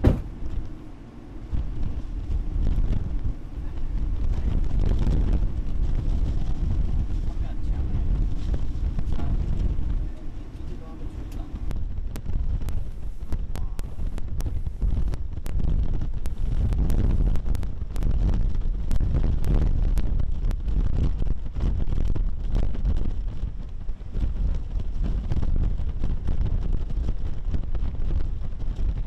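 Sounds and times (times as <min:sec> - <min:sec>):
strong wind buffeting microphone: 0:00.0 - 0:29.0.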